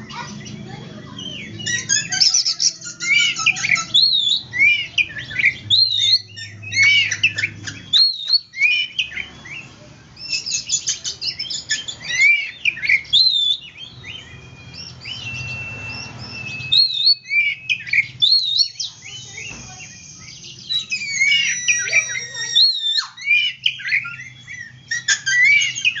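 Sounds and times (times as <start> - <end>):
songbird whistling and chattering: 0.0 - 26.0.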